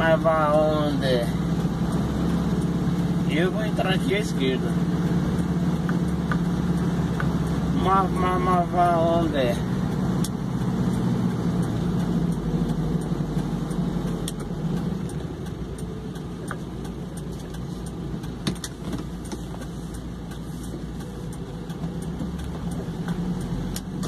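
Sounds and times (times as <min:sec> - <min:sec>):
road noise: 0:00.0 - 0:24.0
vehicle engine hum: 0:00.0 - 0:24.0
faint clicks and rattles: 0:00.3 - 0:24.0.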